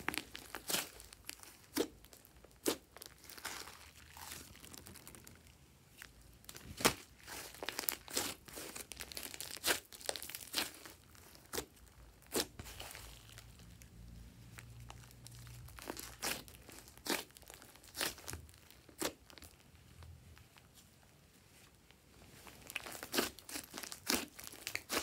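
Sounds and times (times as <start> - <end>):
slime squishing with sticky crackles: 0.0 - 25.0.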